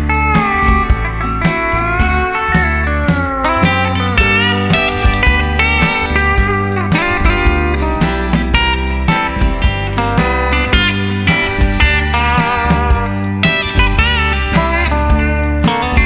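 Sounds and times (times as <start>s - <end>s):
bass: 0.0s - 16.0s
steady drum beat: 0.0s - 16.0s
steel guitar sliding: 0.0s - 16.0s.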